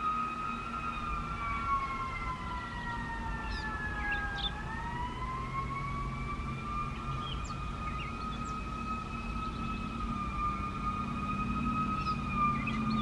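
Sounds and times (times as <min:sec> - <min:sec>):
two-tone warning siren: 0:00.0 - 0:13.0.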